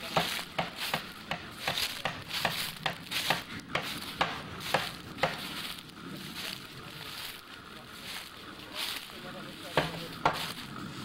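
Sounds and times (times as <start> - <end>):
footsteps crunching through dry leaves: 0.0 - 11.0
leaves rustling: 0.0 - 11.0.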